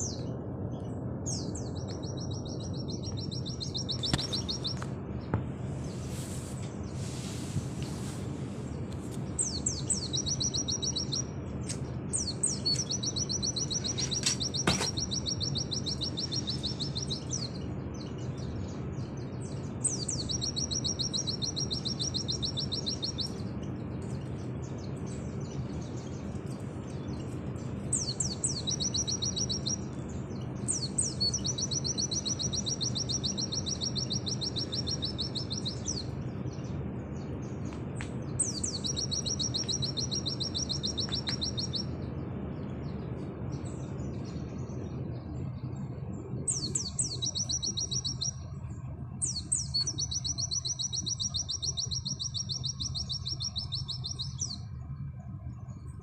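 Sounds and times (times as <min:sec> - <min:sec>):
bird singing fast trills: 0:00.0 - 0:05.9, 0:09.3 - 0:56.0
steady low hum: 0:00.0 - 0:56.0.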